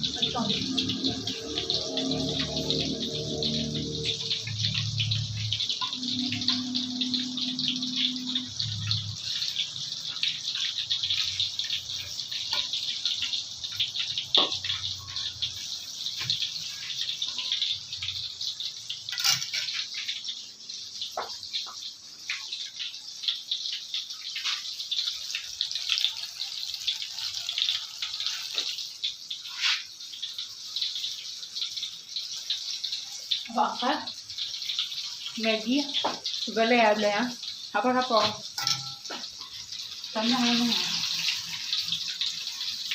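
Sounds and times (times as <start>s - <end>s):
batter deep-frying in hot oil: 0.0s - 42.9s.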